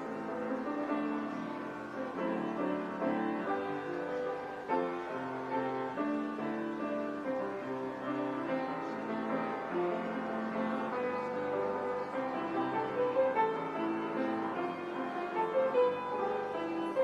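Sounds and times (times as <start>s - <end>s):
instrumental keyboard music: 0.0s - 17.0s.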